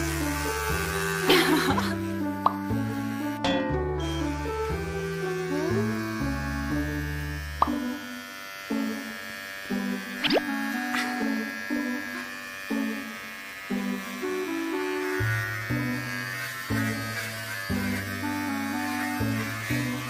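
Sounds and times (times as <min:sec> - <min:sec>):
background music: 0:00.0 - 0:20.0
electric hair clipper buzzing: 0:00.0 - 0:20.0.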